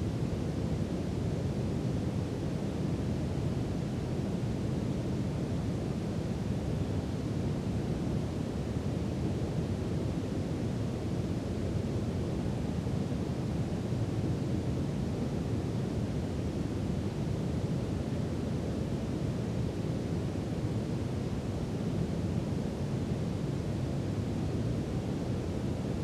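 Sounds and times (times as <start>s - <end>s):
brown noise hiss: 0.0s - 26.0s.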